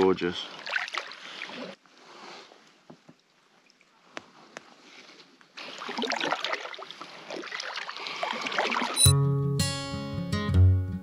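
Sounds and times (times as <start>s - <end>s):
paddle moving water and dripping: 0.0s - 9.1s.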